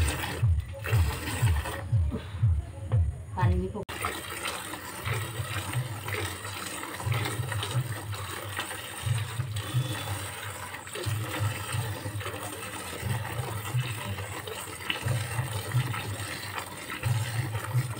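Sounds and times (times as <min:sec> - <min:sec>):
milk squirting into a bucket: 0:00.0 - 0:01.9, 0:03.9 - 0:17.9.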